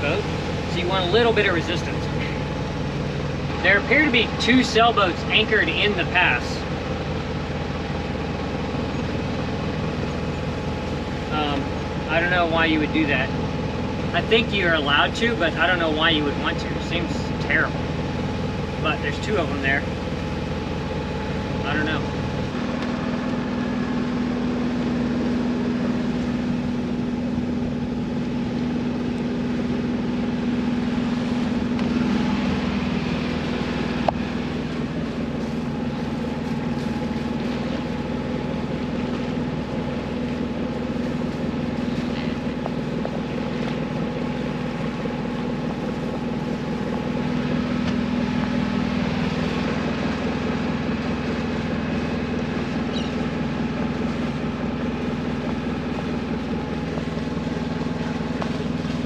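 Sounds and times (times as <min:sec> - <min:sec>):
boat engine running: 0:00.0 - 0:59.0
water rushing around hull: 0:00.0 - 0:59.0.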